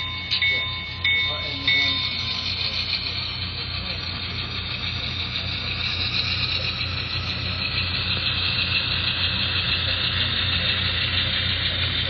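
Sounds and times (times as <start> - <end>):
model train rolling hiss: 0.0 - 12.0.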